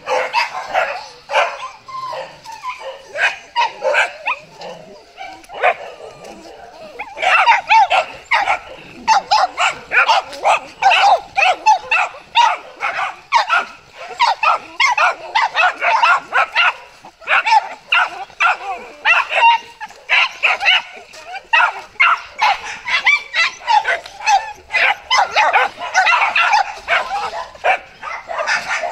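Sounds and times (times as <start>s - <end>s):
small dogs barking: 0.0s - 28.9s.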